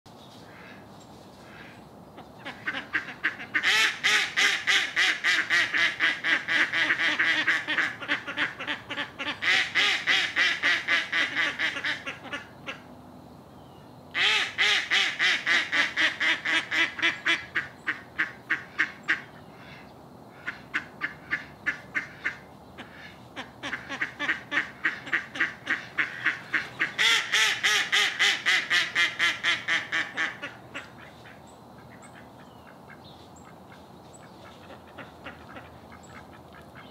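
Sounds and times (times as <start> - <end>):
ducks quacking loudly: 2.4 - 12.9, 14.2 - 36.9.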